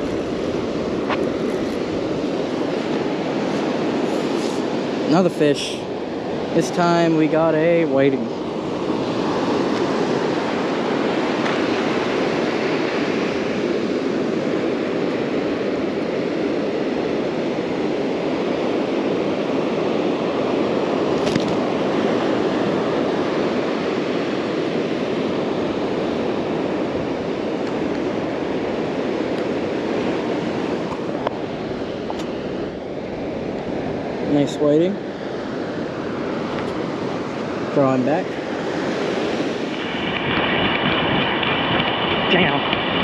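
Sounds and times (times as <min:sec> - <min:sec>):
ocean surf washing on sand: 0:00.0 - 0:43.0.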